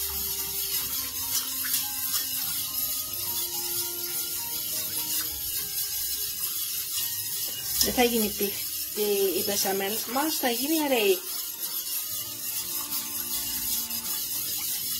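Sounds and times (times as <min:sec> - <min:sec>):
whisk scraping metal pot: 0:00.0 - 0:14.9.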